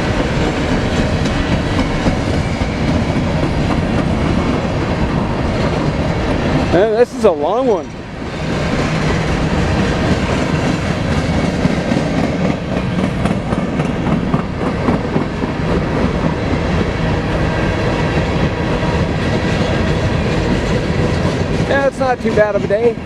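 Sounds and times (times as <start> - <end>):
freight train wheels on rails: 0.0 - 23.0.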